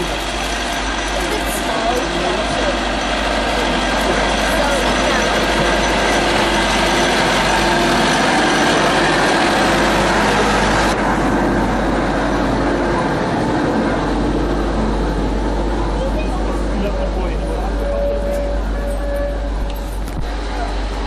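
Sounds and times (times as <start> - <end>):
diesel locomotive engine running: 0.0 - 21.0
train rumble: 0.0 - 21.0.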